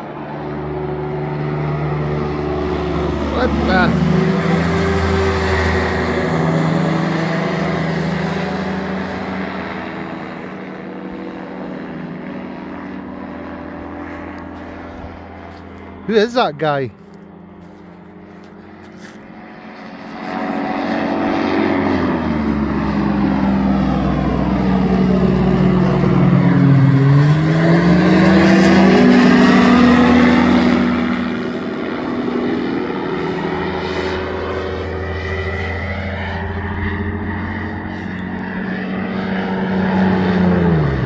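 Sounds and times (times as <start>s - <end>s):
microlight engine and propeller overhead: 0.0s - 41.0s.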